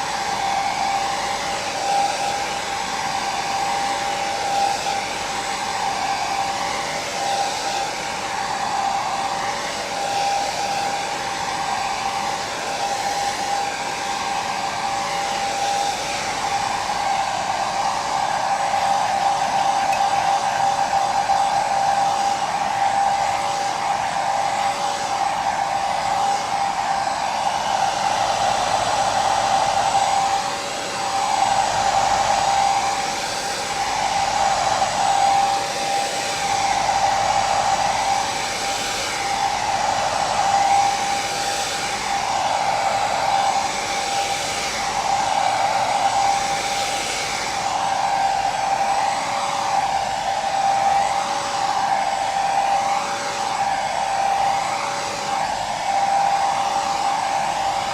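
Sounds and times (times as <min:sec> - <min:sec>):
electric hair dryer running: 0:00.0 - 0:57.9.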